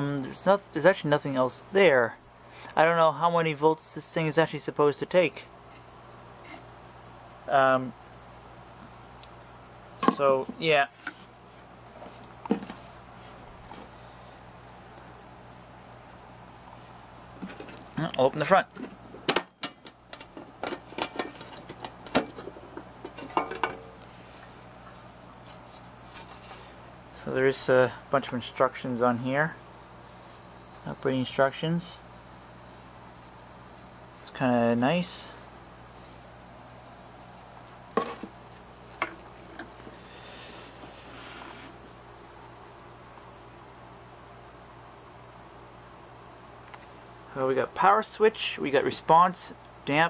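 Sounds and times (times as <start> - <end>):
background hiss: 0.0 - 50.0.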